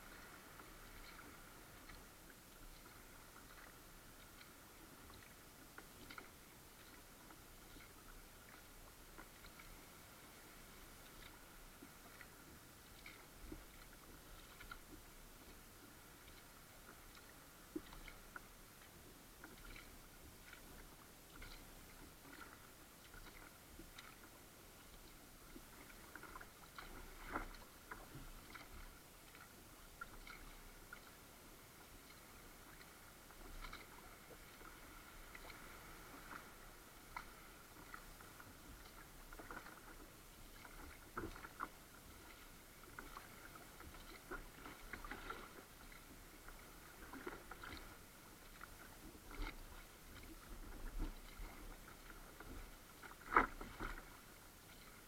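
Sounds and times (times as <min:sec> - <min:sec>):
paddle splashes and drips: 0:00.0 - 0:55.0.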